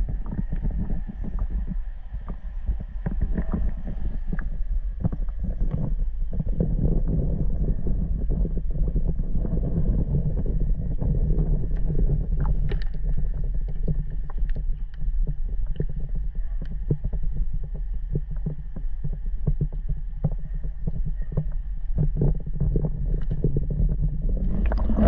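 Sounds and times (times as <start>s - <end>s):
muffled water lapping and gurgling: 0.0s - 25.0s.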